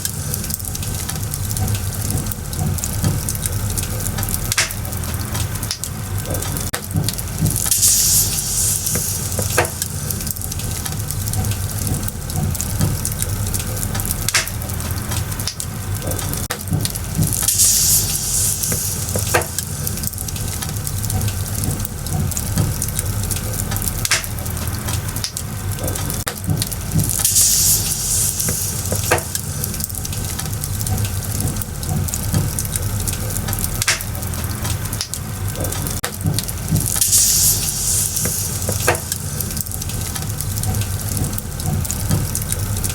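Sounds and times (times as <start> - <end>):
fire hiss: 0.0 - 42.9
firewood crackling and popping: 0.0 - 42.9.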